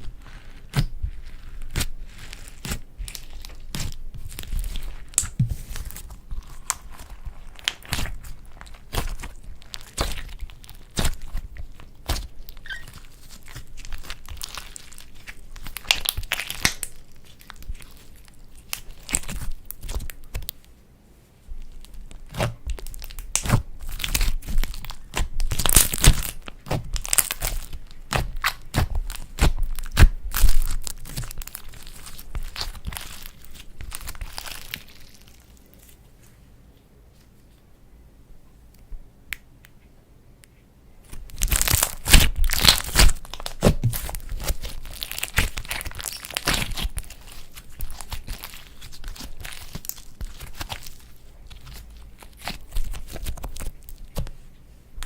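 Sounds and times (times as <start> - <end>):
slime crackling and popping: 0.0 - 20.6, 21.6 - 35.8, 41.1 - 54.4.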